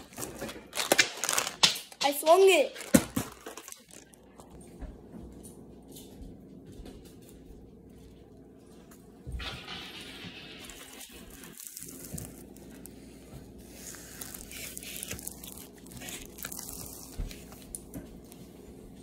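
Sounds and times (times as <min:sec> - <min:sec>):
rustling and crinkling handling noise: 0:00.0 - 0:19.0.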